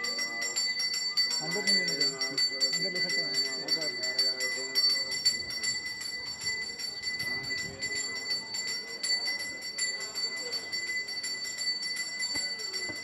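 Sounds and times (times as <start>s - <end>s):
faint voices: 0.0s - 13.0s
small bell rung rapidly: 0.0s - 13.0s.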